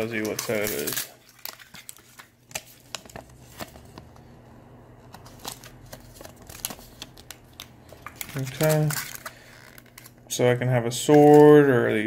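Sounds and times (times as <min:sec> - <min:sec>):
paper and plastic crinkling: 0:00.0 - 0:04.2, 0:05.1 - 0:10.2, 0:10.9 - 0:11.8
low steady hum: 0:00.0 - 0:12.0.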